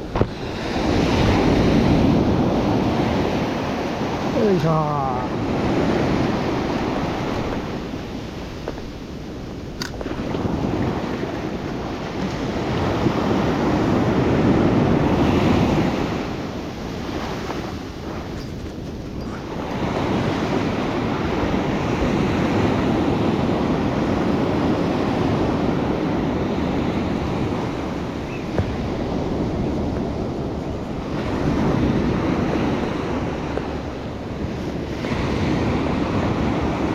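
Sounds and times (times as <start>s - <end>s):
surf breaking on beach: 0.0s - 36.9s
wind on microphone: 0.0s - 36.9s.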